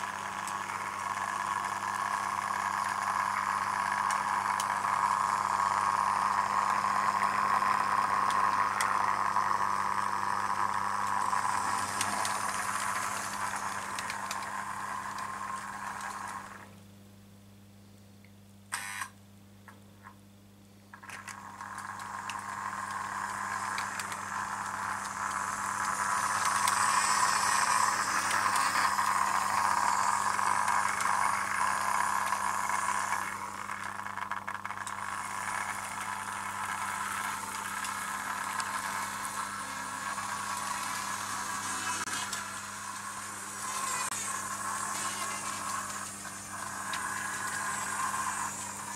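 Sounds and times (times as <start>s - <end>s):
model train whirring rattle: 0.0s - 16.7s, 20.9s - 48.9s
steady low hum: 0.0s - 48.9s.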